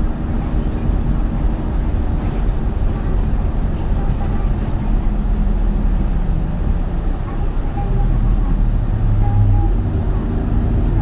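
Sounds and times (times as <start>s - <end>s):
diesel bus engine drone: 0.0s - 11.0s
road rumble: 0.0s - 11.0s.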